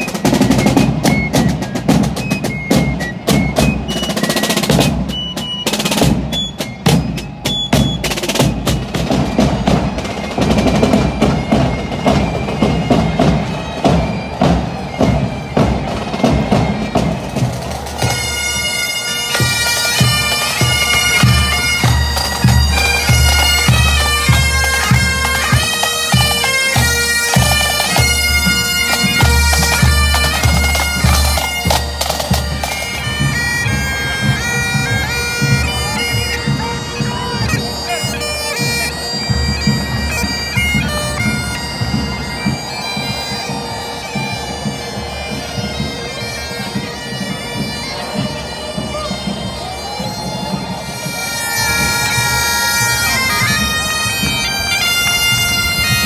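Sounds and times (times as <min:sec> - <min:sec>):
bagpipes playing: 0:00.0 - 0:56.0
field drums beating and rolling: 0:00.0 - 0:56.0.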